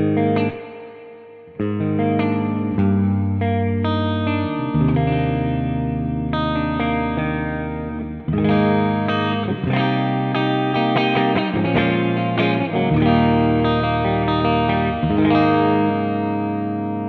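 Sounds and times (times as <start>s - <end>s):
clean electric guitar with reverb: 0.0s - 17.0s.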